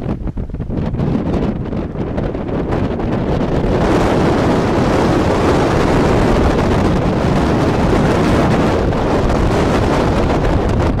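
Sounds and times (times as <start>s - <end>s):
choppy water: 0.0s - 11.0s
wind buffeting microphone: 0.0s - 11.0s.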